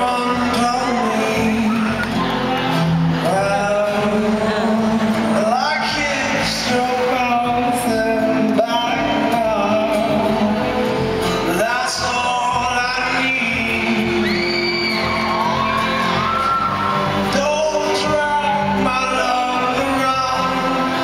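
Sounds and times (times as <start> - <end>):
amplified vocals: 0.0 - 21.0
crowd shouting and whooping: 0.0 - 21.0
strummed acoustic guitar: 0.0 - 21.0.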